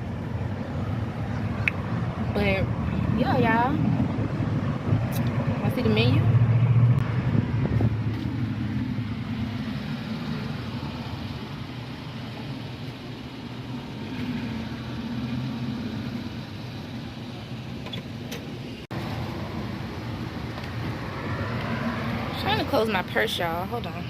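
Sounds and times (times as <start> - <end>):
car engine idling: 0.0 - 21.3
outdoor background noise: 0.0 - 24.0.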